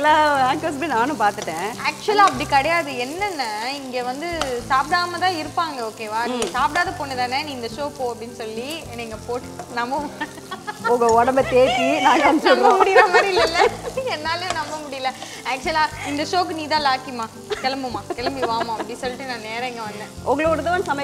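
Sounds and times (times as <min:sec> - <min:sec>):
woman talking: 0:00.0 - 0:10.2, 0:10.8 - 0:21.0
onions sizzling in hot oil: 0:00.0 - 0:21.0.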